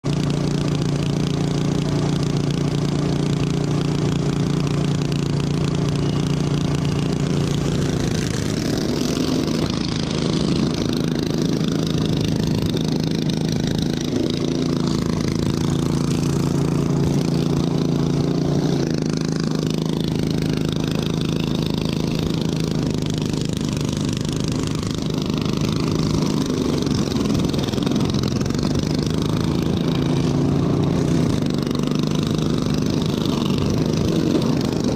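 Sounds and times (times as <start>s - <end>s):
lawn tractor engine running: 0.0s - 34.9s.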